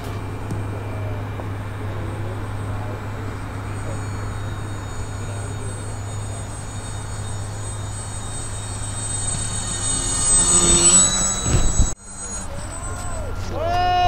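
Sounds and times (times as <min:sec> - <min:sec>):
model plane propellers whining overhead: 0:00.0 - 0:14.0.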